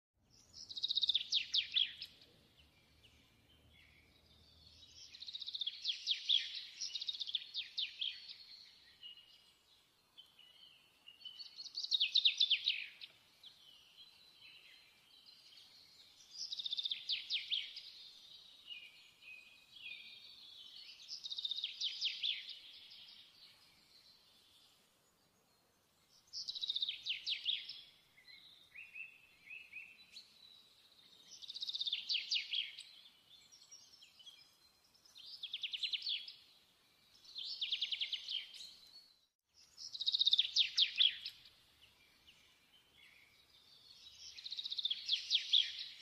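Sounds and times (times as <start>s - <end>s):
bird chirping: 0.2s - 46.0s.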